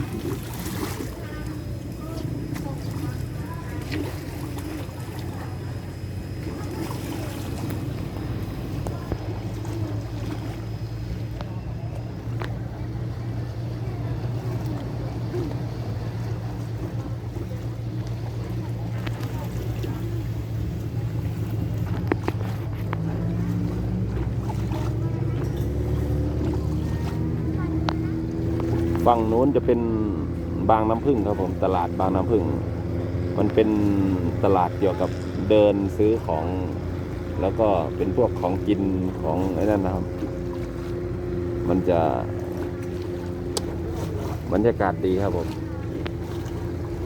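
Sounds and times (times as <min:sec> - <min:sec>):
boat engine drone: 0:00.0 - 0:47.0.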